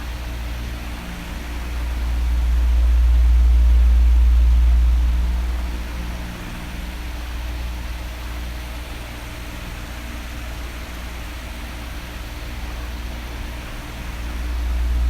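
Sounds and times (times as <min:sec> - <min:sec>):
electric fan blowing air: 0:00.0 - 0:15.0.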